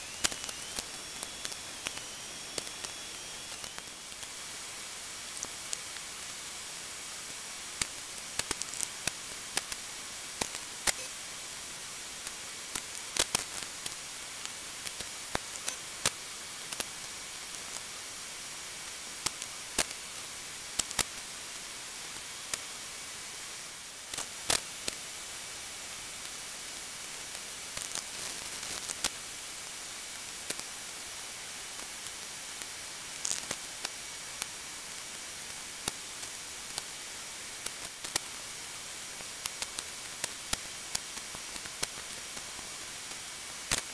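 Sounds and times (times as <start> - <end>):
static hiss: 0.0 - 43.9.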